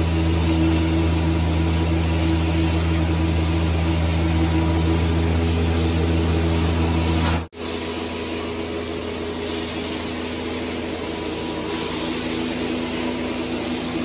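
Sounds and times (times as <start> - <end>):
carpet cleaning machine drone: 0.0 - 14.0.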